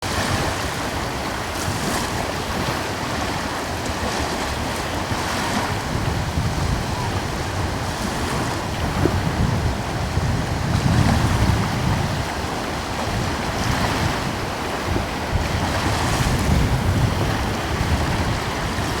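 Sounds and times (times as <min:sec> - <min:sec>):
small ocean waves washing in: 0:00.0 - 0:19.0
wind blowing: 0:00.0 - 0:19.0.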